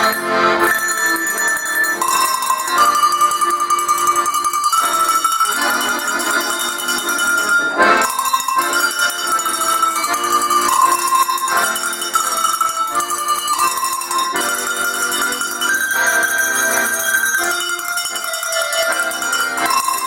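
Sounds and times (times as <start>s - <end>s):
accordion notes: 0.0s - 20.0s
tuned cowbells melody: 0.0s - 20.0s.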